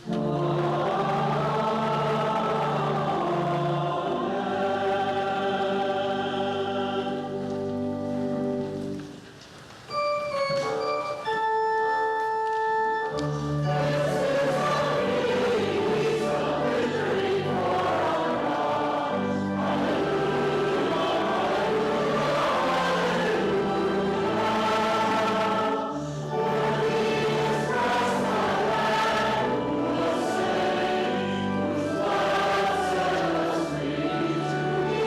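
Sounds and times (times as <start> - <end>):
group singing a hymn: 0.0 - 8.7, 13.6 - 35.0
organ: 0.0 - 9.3, 9.9 - 35.0.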